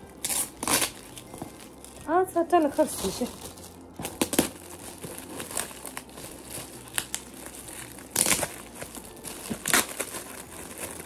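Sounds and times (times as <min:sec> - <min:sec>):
gift packaging crinkling: 0:00.0 - 0:11.0.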